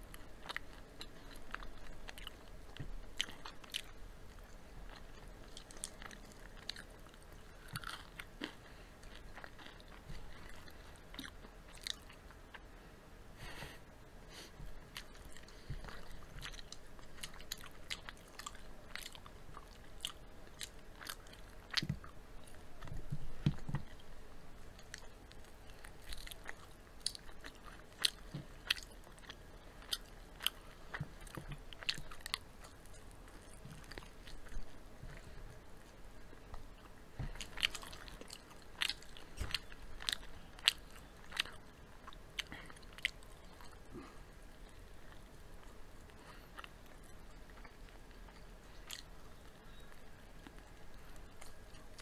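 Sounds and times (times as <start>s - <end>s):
soft chewing: 0.0s - 52.0s.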